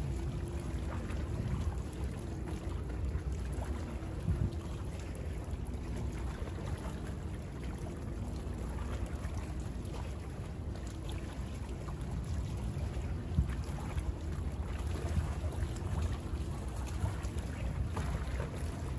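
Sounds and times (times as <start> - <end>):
waves lapping and splashing: 0.0 - 18.9.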